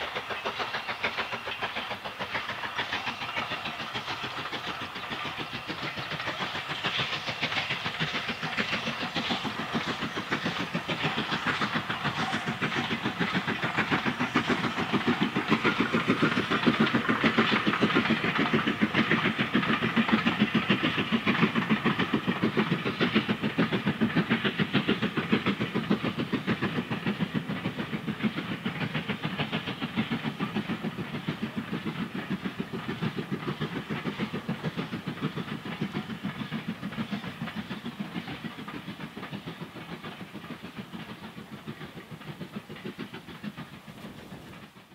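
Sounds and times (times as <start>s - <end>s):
steam hissing: 0.0s - 44.9s
steam locomotive exhaust beat: 0.0s - 44.9s
wheels on rails: 0.0s - 44.9s.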